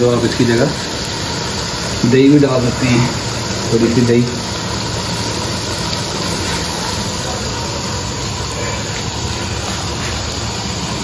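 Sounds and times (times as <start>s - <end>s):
gas burner flame hissing: 0.0s - 11.0s.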